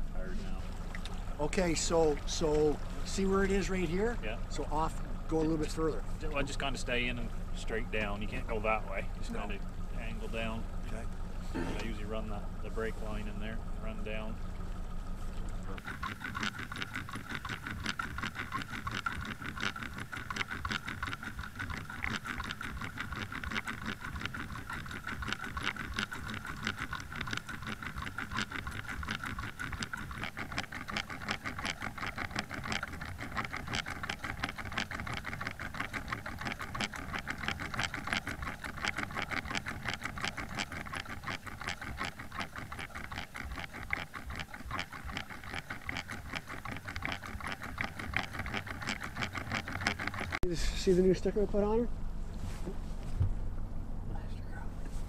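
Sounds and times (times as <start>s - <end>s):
underwater outboard motor ticking: 0.0s - 52.3s, 53.0s - 55.0s.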